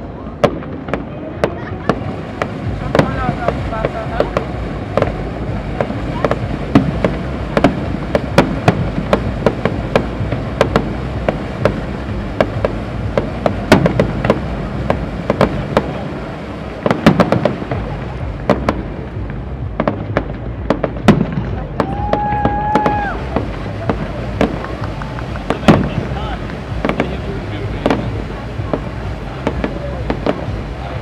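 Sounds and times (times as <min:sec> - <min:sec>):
fireworks bursting bangs: 0:00.0 - 0:31.0
steady low rumble: 0:00.0 - 0:31.0.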